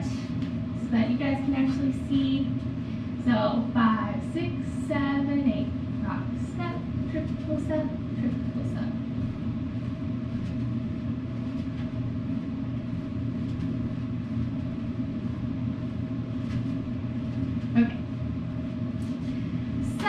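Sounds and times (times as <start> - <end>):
low room rumble: 0.0 - 20.0.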